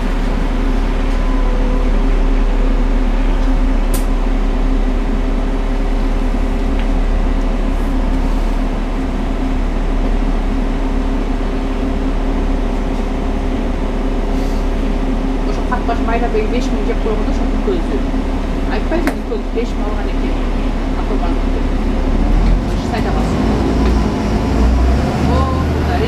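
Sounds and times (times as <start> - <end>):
bus engine drone: 0.0 - 26.0
road and tyre noise: 0.0 - 26.0.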